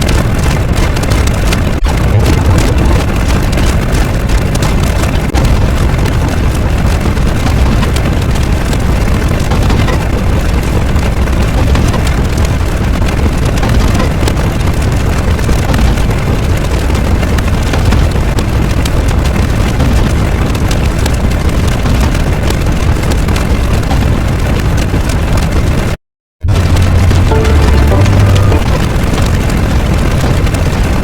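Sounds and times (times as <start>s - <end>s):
loud rumbling with crackling: 0.0s - 31.0s.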